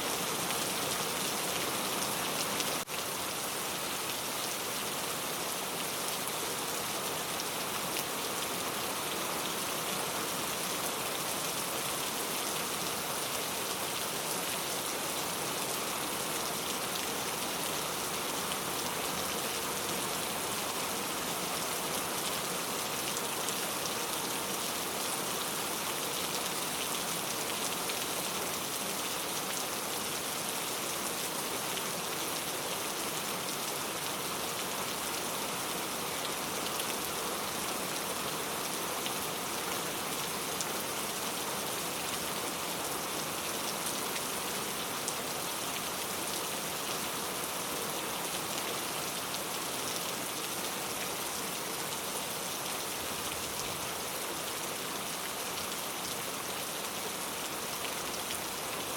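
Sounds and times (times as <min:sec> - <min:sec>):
steady rain patter: 0:00.0 - 0:58.9.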